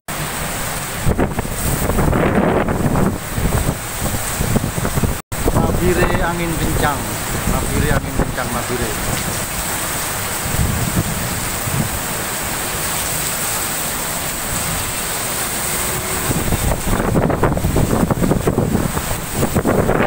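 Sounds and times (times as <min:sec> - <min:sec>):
storm wind with rain: 0:00.1 - 0:20.0
wind buffeting microphone: 0:00.8 - 0:20.0.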